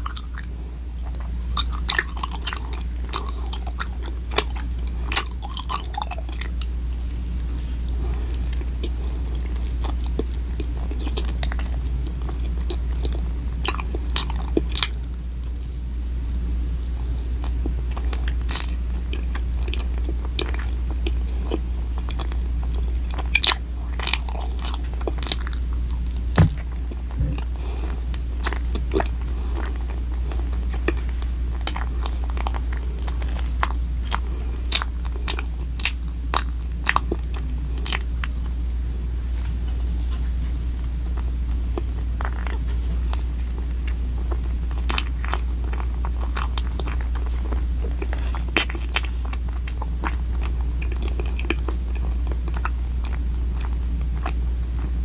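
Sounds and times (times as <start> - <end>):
chewing and biting food: 0.0 - 15.0, 17.4 - 38.6, 39.8 - 55.0
low steady hum: 0.0 - 55.0.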